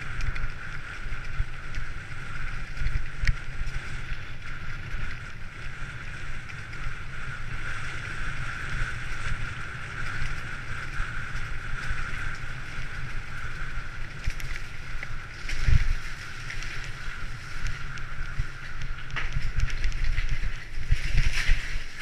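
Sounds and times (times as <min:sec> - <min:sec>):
bicycle rolling on wet gravel: 0:00.0 - 0:22.0
wind buffeting microphone: 0:00.0 - 0:22.0.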